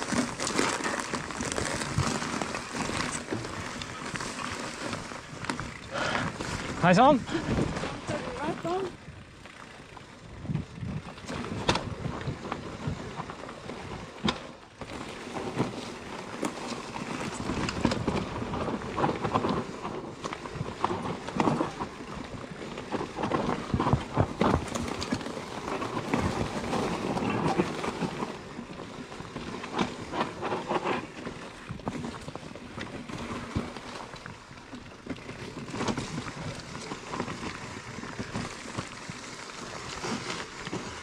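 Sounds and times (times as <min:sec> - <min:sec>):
bike rattling and knocking: 0:00.0 - 0:41.0
bike tyres rolling over dirt: 0:00.0 - 0:41.0.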